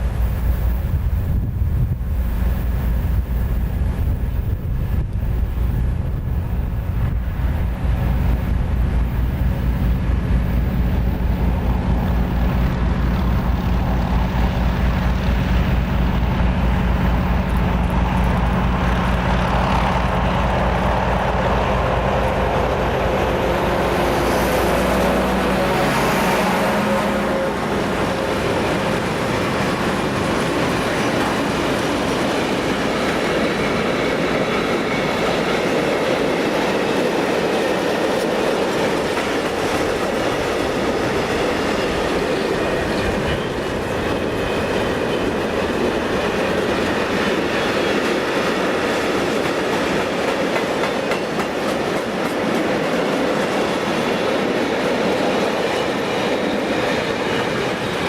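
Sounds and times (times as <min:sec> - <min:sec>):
locomotive engine: 0:00.0 - 0:58.0
train wagons rolling on rails: 0:00.0 - 0:58.0.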